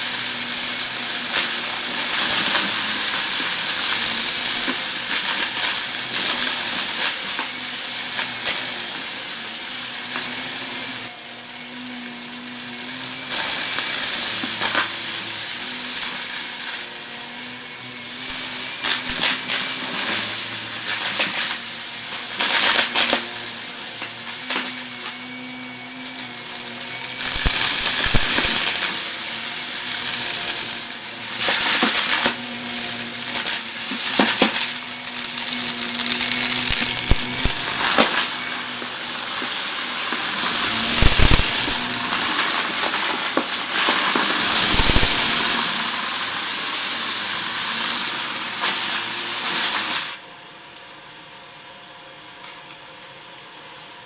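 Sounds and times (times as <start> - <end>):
debris rattling into vacuum: 0.0 - 50.2
vacuum cleaner running: 0.0 - 54.0.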